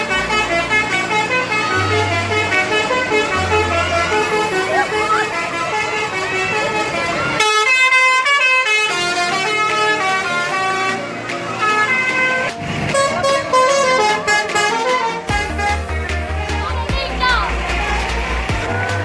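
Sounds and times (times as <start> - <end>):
bus multi-tone horn playing a tune: 0.0 - 16.1.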